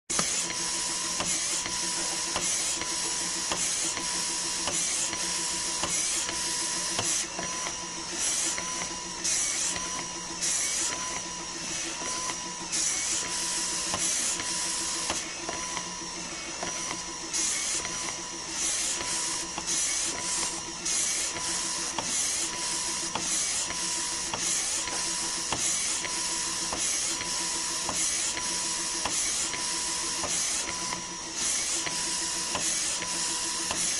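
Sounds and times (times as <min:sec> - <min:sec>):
breast pump motor hum: 0:00.1 - 0:33.9.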